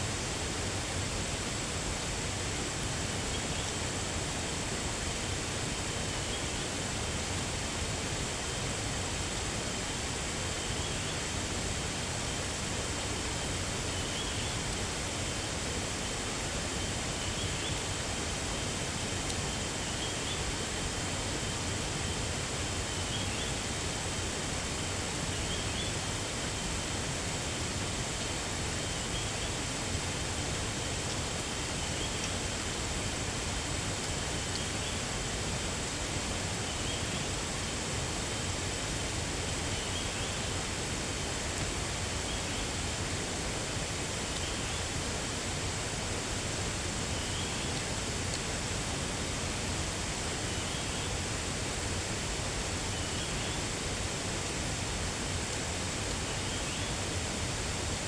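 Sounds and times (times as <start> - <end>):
rushing outdoor noise: 0.0 - 58.0.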